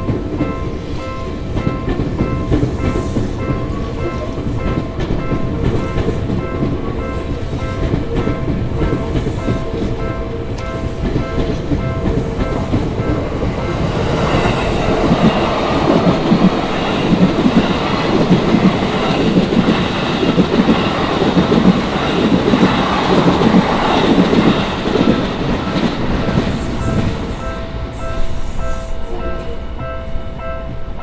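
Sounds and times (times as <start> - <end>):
crossing alarm bell dinging: 0.0 - 31.0.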